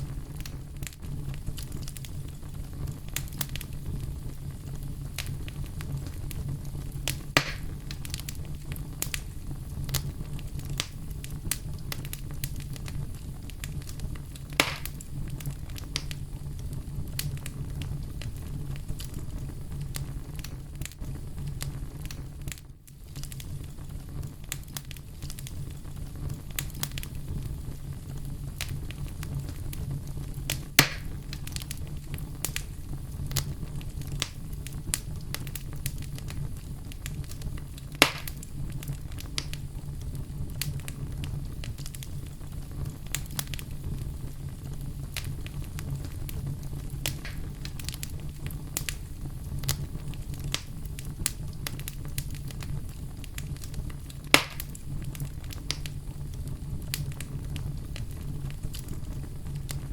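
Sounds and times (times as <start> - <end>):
campfire crackling: 0.0 - 59.9
loud fire pops: 0.0 - 59.9.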